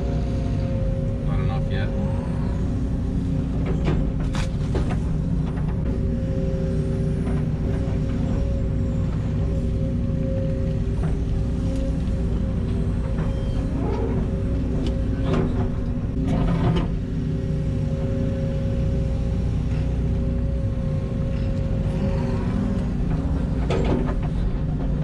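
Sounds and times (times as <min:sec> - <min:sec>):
excavator engine and hydraulics: 0:00.0 - 0:25.0.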